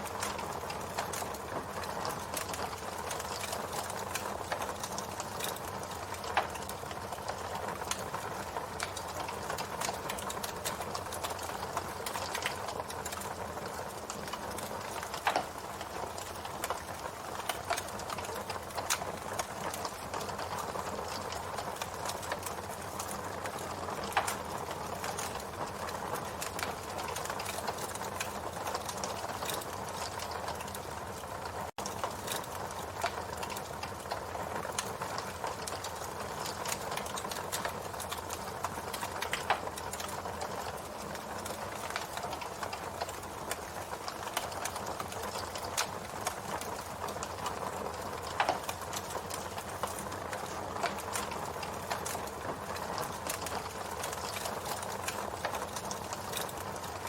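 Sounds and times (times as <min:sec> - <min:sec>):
wood crackling and popping: 0:00.0 - 0:57.0.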